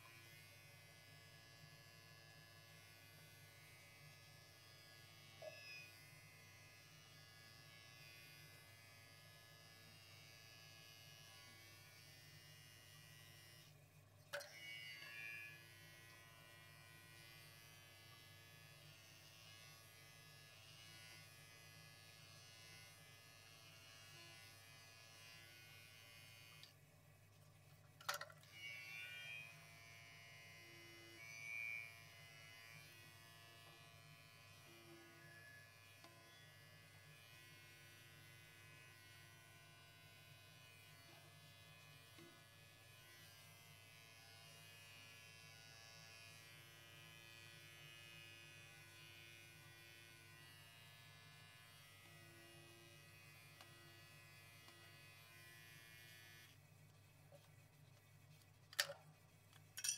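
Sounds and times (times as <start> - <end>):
electric hair clipper buzzing: 0.0 - 26.7, 28.1 - 56.6.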